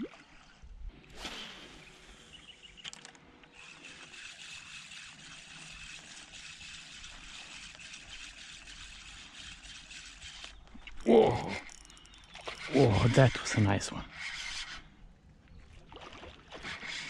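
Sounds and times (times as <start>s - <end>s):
river water trickling: 0.0s - 13.6s, 15.2s - 17.0s.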